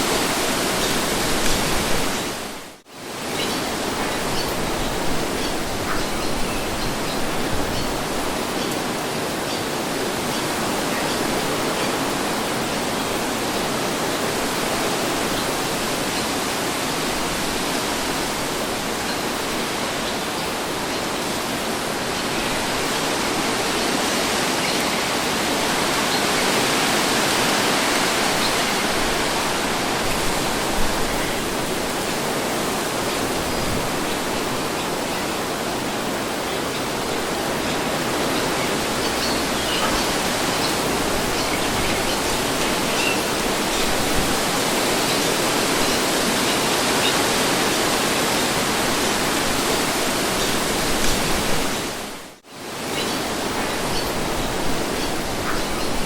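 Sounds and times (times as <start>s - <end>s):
steady wind: 0.0s - 56.0s.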